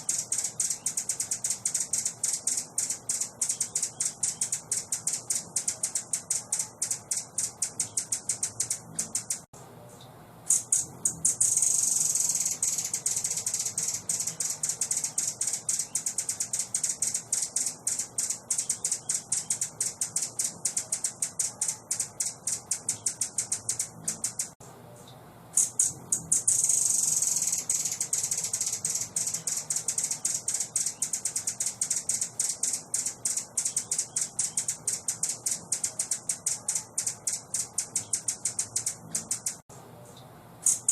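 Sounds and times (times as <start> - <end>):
high buzzing bird trill: 0.0 - 9.5, 10.5 - 24.6, 25.6 - 39.7, 40.6 - 40.9
high-pitched ticking bird chatter: 0.0 - 9.5, 10.5 - 24.6, 25.6 - 39.7, 40.6 - 40.9.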